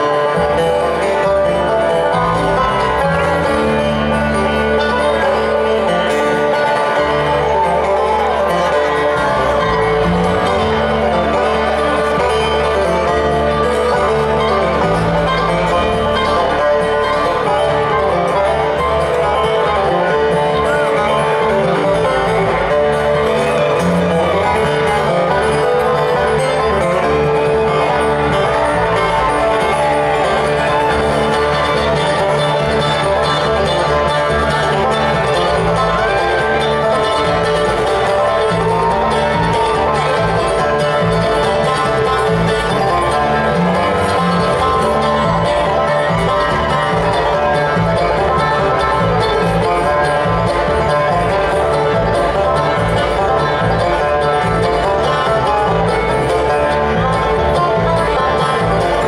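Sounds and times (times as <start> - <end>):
acoustic guitar: 0.0 - 59.0
bass line: 0.0 - 59.0
bluegrass band playing: 0.0 - 59.0.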